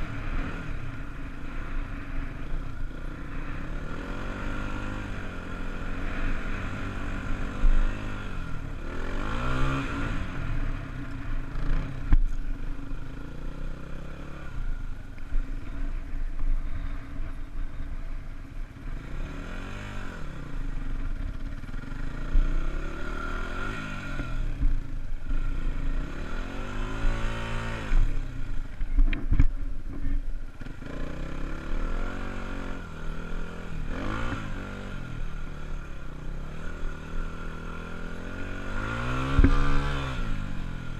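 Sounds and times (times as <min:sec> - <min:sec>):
dirt bike engine revving: 0:00.0 - 0:14.8, 0:18.8 - 0:28.5, 0:30.6 - 0:40.9.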